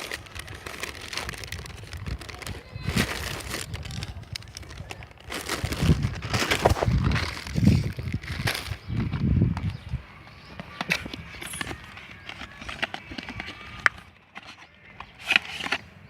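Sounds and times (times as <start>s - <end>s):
packaging rustling: 0.0s - 9.2s, 10.6s - 16.0s.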